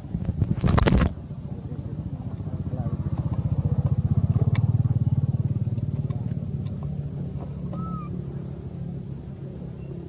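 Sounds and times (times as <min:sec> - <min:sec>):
vehicle engine running: 0:01.1 - 0:10.0.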